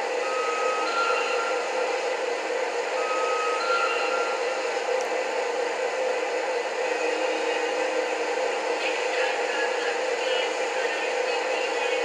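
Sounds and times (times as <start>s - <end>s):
locomotive running hum: 0.0s - 12.0s.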